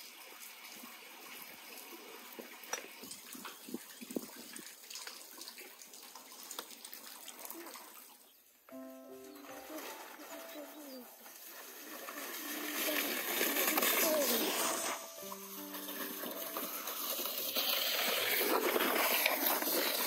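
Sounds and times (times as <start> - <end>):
running water: 0.0 - 20.0.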